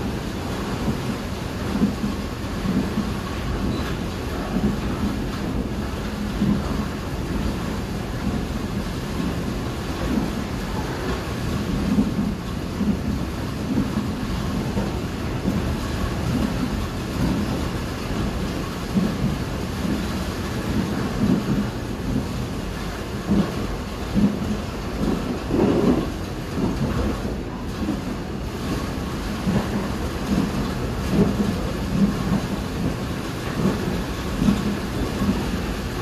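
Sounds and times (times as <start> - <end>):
heavy rain hissing: 0.0 - 36.0
low thuds of train: 0.0 - 36.0
train rumbling inside carriage: 0.0 - 36.0.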